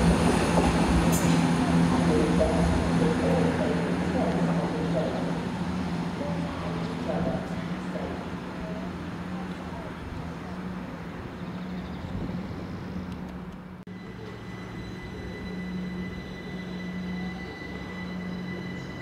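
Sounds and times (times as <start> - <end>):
steady high whine: 0.0 - 11.4, 13.8 - 19.0
train low hum: 0.0 - 19.0.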